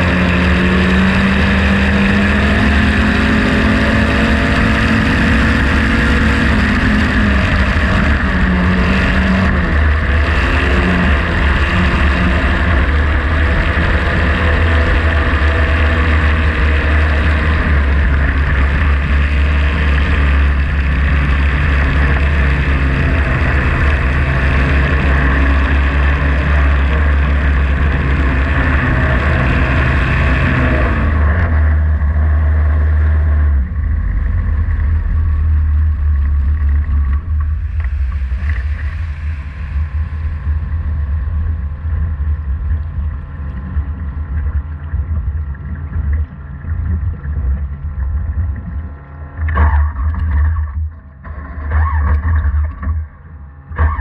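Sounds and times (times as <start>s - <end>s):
rushing wind: 0.0s - 48.7s
racing boat engine: 0.0s - 54.0s
water splashing around hull: 0.0s - 54.0s.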